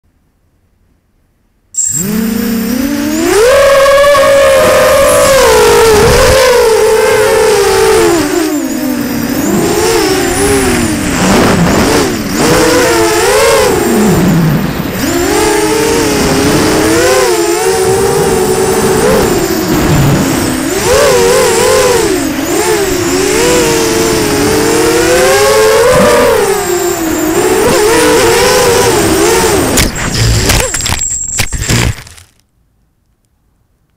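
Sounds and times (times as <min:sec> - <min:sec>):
drone propellers whining: 0:01.8 - 0:32.4.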